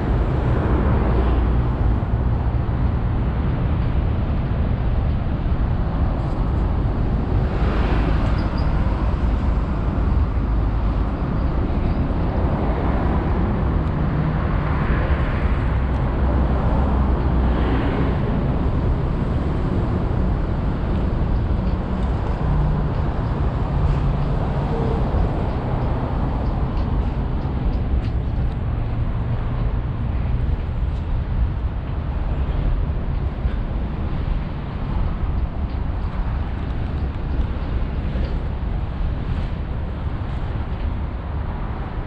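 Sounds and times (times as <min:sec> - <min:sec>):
traffic rumble: 0:00.0 - 0:42.0
vehicles passing: 0:00.0 - 0:42.0.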